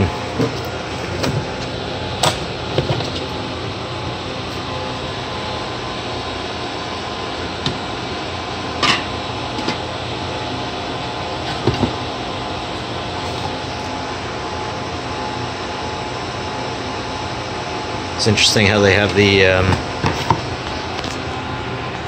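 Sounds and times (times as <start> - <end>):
cooling fans whirring: 0.0 - 22.0.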